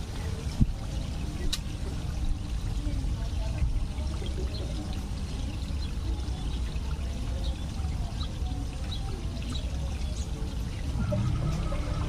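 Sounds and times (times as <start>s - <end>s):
running pouring water: 0.0s - 12.0s.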